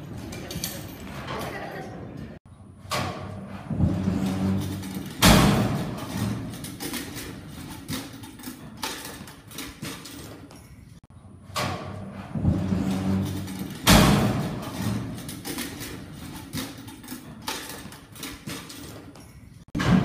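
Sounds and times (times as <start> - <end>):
metal gate clanging and rattling: 0.0 - 1.9, 2.9 - 10.8, 11.5 - 20.0.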